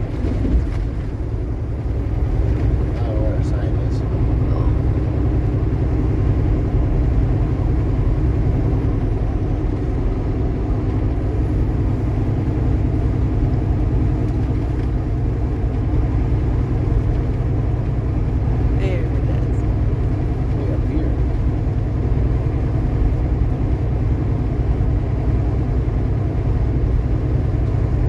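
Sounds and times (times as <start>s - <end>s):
truck engine and road drone: 0.0s - 28.0s.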